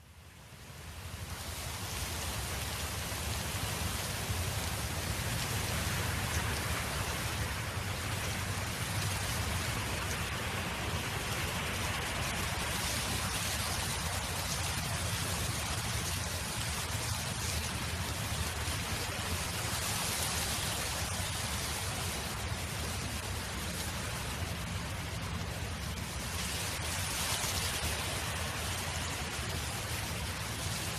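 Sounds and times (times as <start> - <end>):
wind rumble on microphone: 0.0 - 30.9.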